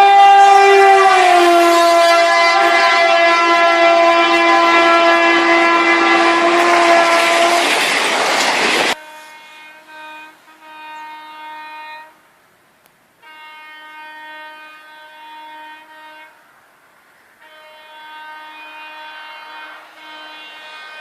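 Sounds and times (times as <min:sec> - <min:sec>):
train horn blasts: 0:00.0 - 0:07.8, 0:08.9 - 0:12.3, 0:13.2 - 0:16.6, 0:17.4 - 0:21.0.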